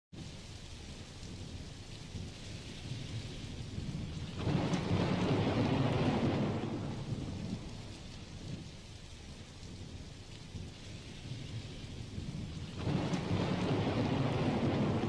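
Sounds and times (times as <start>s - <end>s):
steady rain: 0.1s - 15.0s
thunder rumbling: 0.2s - 15.0s.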